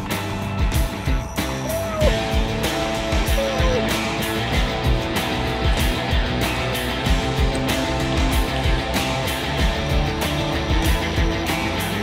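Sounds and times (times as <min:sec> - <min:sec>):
guitar with bending notes: 0:00.0 - 0:12.0
steady drum beat: 0:00.0 - 0:12.0.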